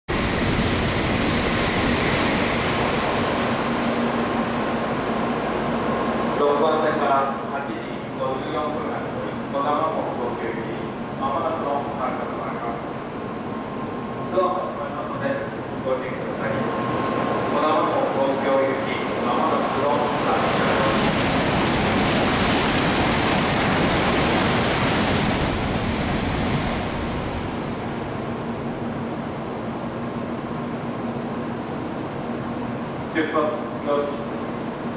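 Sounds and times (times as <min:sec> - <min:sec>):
steady hum: 0:00.1 - 0:34.9
train rushing through station: 0:00.1 - 0:34.9.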